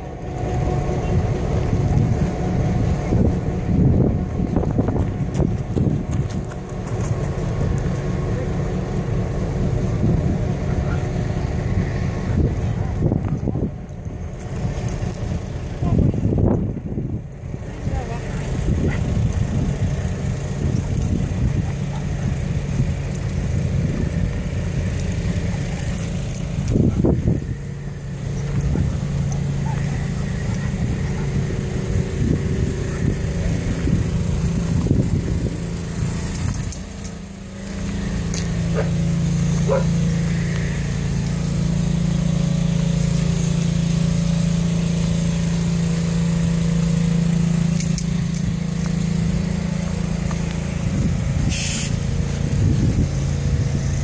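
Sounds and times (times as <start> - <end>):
train wheels rumbling on rails: 0.0 - 46.2
steady low hum: 0.0 - 54.0.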